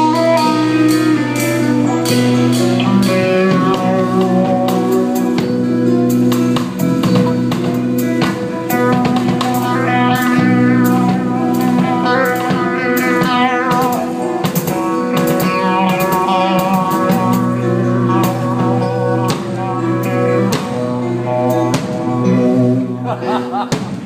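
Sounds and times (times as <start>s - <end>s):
bass guitar: 0.0s - 24.0s
drums and cymbal hits: 0.0s - 24.0s
electric guitar lead: 0.0s - 24.0s.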